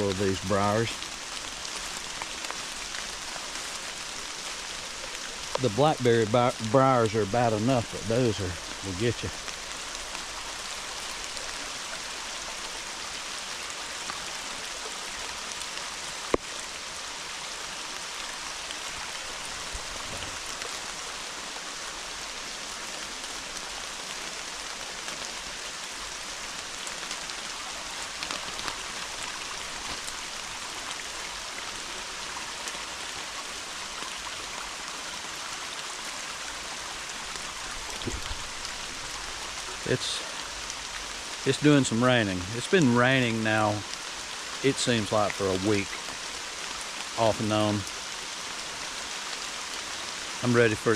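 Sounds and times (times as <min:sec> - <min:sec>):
hard rain in woodland: 0:00.0 - 0:50.9.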